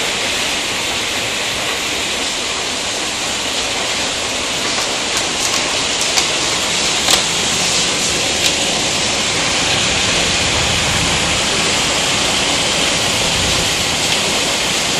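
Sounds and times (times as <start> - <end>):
heavy hail hissing: 0.0 - 14.9
hailstones ticking close by: 0.8 - 14.9.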